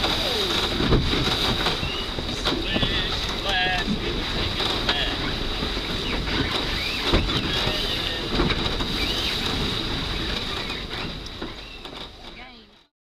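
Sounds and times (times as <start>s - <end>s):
wind buffeting microphone: 0.0s - 12.4s
choppy water slapping: 0.0s - 12.9s.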